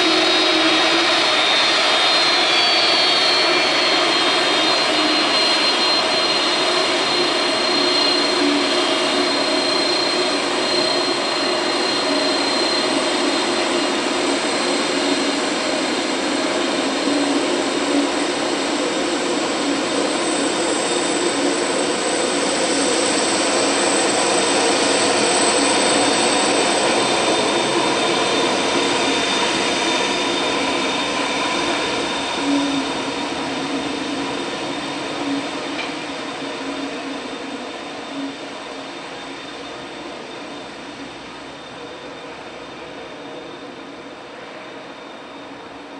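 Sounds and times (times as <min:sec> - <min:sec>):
jet engines whining rumble: 0:00.0 - 0:45.9.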